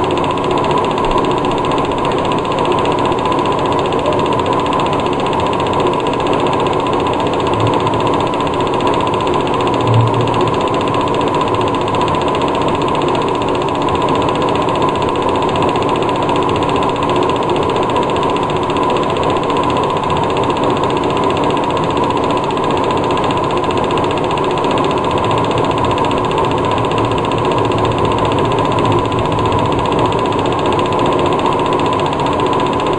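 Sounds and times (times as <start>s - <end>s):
film projector whirring: 0.0s - 32.9s.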